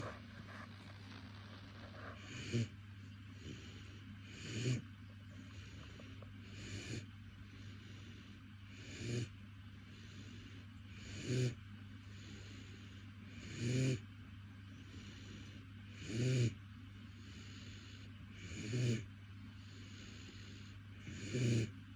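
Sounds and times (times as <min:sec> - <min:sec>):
puppy snoring: 0:00.0 - 0:08.1, 0:08.7 - 0:09.4, 0:10.0 - 0:14.1, 0:14.8 - 0:16.6, 0:17.2 - 0:21.9.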